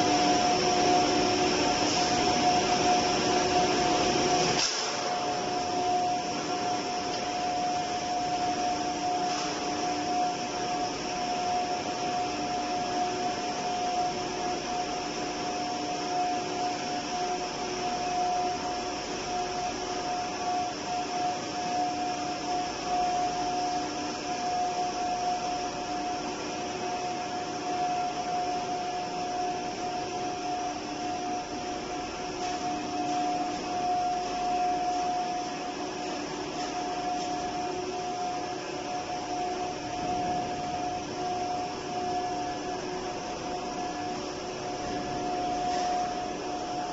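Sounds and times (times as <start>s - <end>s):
machinery hum and hiss: 0.0s - 46.9s.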